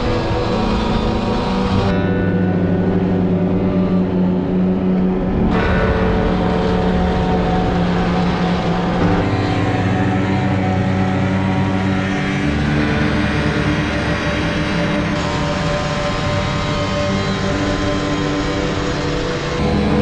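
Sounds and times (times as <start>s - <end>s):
snowmobile engine drone: 0.0s - 20.0s.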